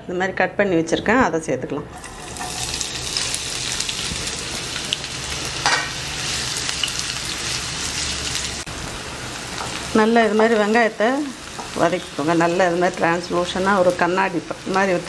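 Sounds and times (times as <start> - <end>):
onions sizzling in hot oil: 2.0 - 15.0.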